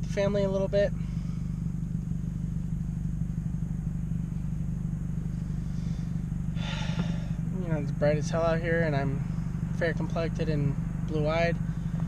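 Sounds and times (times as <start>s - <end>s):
car engine droning in cabin: 0.0s - 12.0s.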